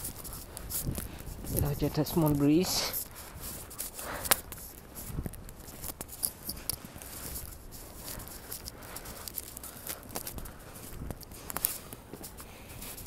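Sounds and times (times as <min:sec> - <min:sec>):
footsteps crunching in snow: 0:00.0 - 0:13.0.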